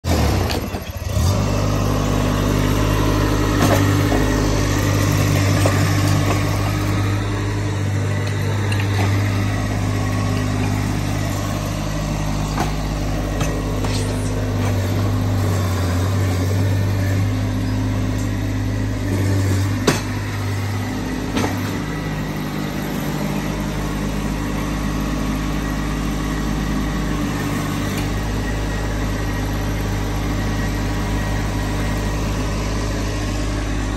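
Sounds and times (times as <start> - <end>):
loader engine running: 0.0 - 33.9.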